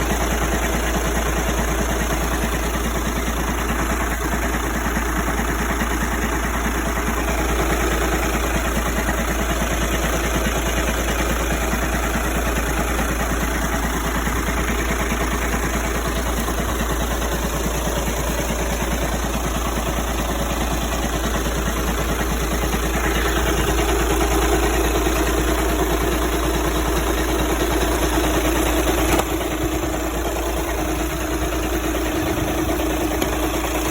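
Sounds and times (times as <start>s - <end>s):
diesel engine idling with clatter: 0.0s - 33.9s.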